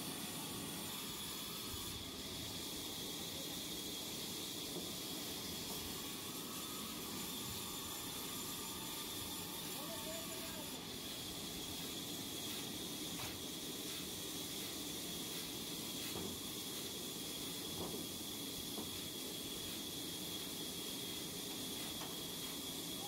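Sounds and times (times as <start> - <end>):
band saw hiss and whine: 0.0 - 23.0.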